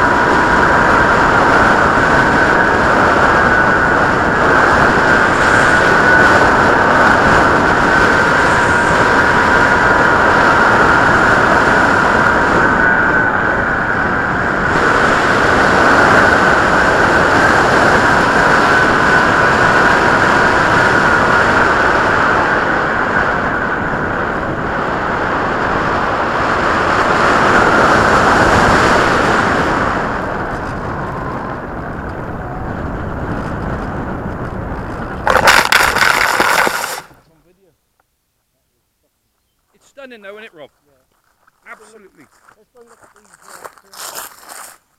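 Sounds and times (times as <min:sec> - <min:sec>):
rc plane motor whine: 0:00.0 - 0:37.2
rush of wind: 0:00.0 - 0:37.2.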